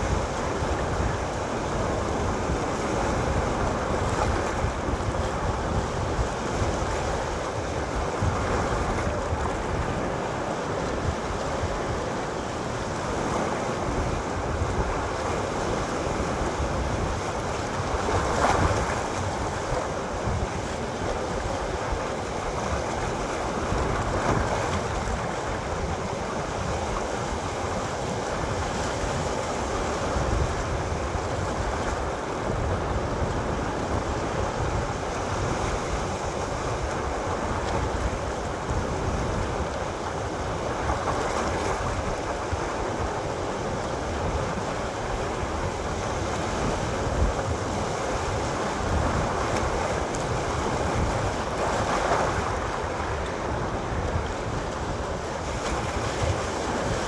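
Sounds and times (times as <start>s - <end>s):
sea waves breaking on rocks: 0.0s - 57.0s.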